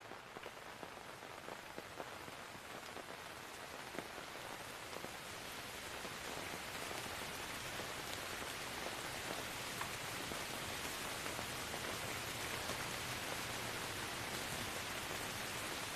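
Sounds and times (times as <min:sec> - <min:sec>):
rain falling: 0:00.0 - 0:15.9
raindrops pattering on a surface: 0:00.0 - 0:15.9.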